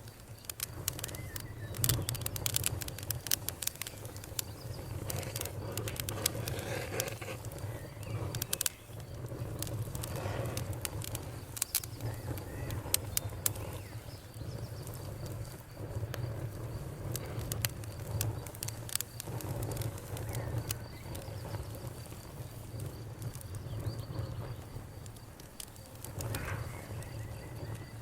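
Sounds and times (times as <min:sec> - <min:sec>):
bonfire crackling: 0:00.0 - 0:28.0
crickets trilling: 0:00.0 - 0:28.0.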